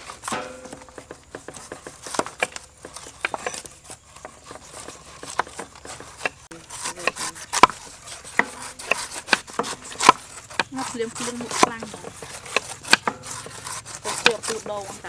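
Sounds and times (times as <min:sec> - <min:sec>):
blades knocking on wooden boards: 0:00.0 - 0:15.0
knives slicing pineapple rind: 0:00.0 - 0:15.0.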